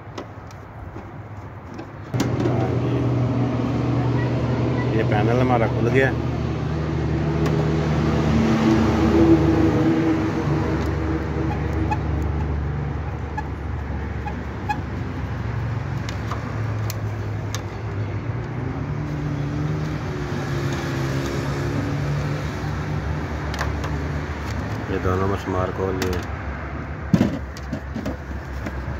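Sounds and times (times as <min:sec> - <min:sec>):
vehicle engines running: 0:00.8 - 0:28.9.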